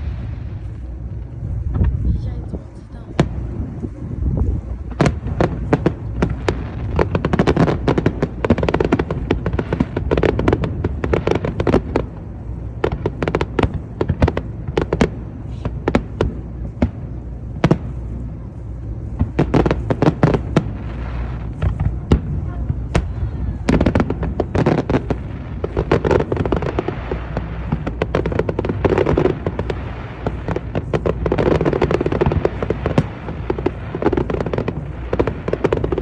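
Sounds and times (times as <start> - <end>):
fireworks bangs and crackles: 0.0 - 36.0
low rumble: 0.0 - 36.0.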